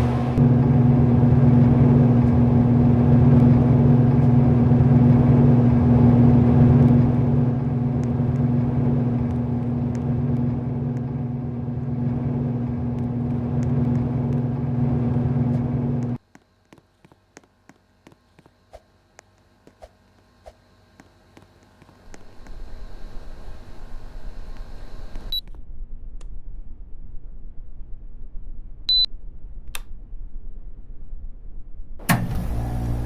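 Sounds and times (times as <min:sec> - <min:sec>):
ceiling fan motor humming: 0:00.0 - 0:26.9.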